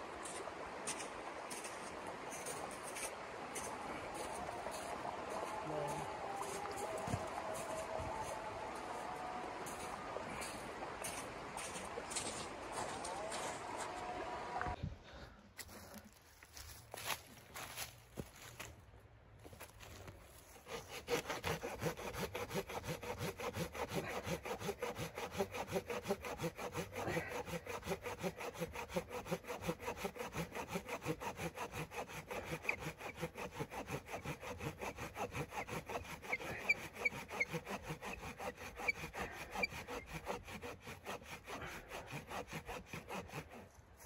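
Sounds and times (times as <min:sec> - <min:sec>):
hand saw cutting wood: 0:00.2 - 0:14.8, 0:20.0 - 0:44.0.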